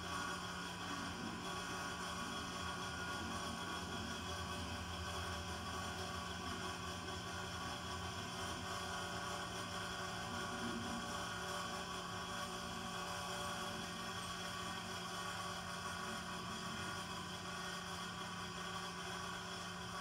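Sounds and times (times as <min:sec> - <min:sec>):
ventilation fan humming: 0:00.0 - 0:20.0.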